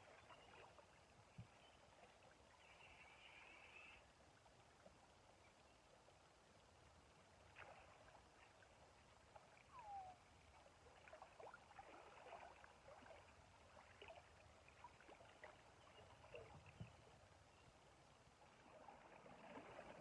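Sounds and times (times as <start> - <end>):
river water lapping: 0.0 - 5.4, 6.5 - 20.0
small trickling water: 0.0 - 20.0.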